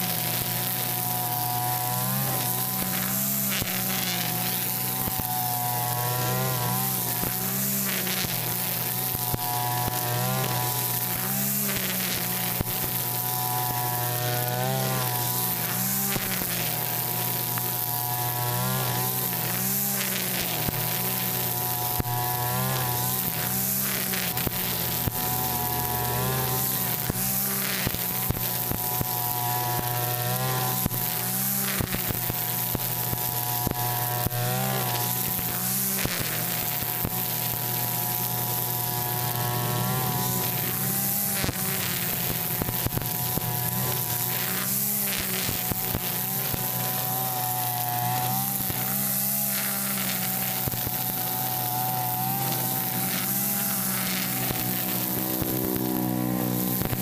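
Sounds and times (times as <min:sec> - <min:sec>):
brush cutter engine running: 0:00.0 - 0:57.0
hiss of spinning trimmer line: 0:00.0 - 0:57.0.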